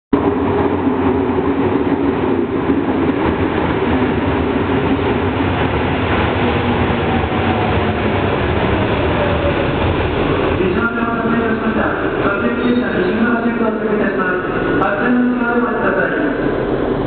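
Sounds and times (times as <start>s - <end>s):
wheels rumbling on rail: 0.1s - 17.0s.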